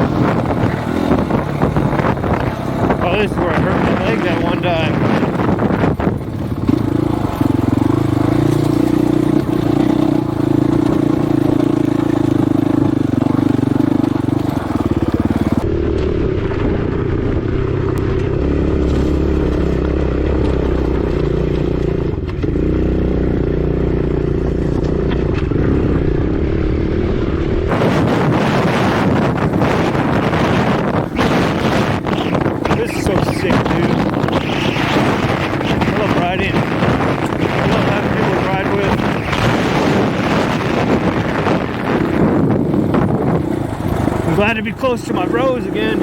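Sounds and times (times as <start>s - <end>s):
dirt bike engine running: 0.0s - 46.0s.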